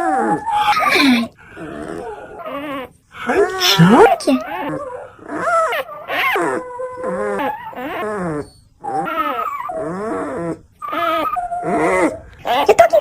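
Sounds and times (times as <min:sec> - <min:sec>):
dog whining and yowling: 0:00.0 - 0:13.0.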